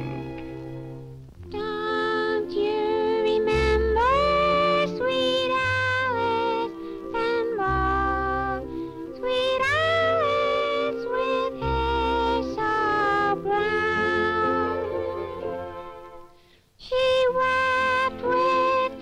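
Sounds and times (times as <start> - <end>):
musical accompaniment: 0.0 - 19.0
high female voice singing: 1.5 - 15.8, 16.8 - 19.0.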